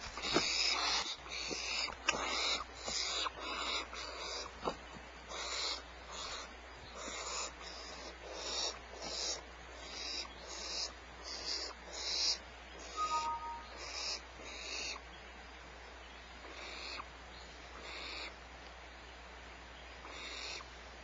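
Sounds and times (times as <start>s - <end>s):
owl chicks raspy hissing calls: 0.2s - 4.6s, 5.2s - 15.1s, 16.4s - 18.4s, 20.0s - 20.8s.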